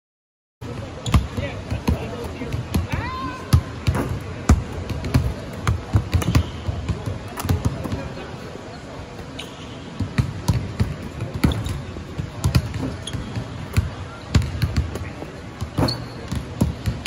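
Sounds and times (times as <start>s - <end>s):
basketballs bouncing on hardwood: 1.0s - 8.1s, 10.0s - 17.0s.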